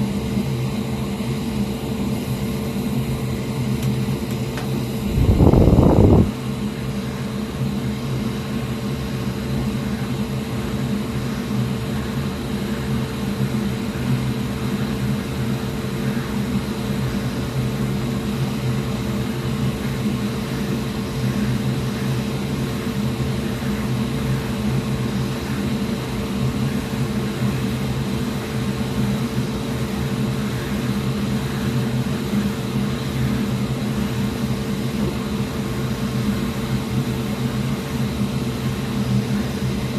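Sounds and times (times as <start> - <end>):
fan humming: 0.0 - 39.9.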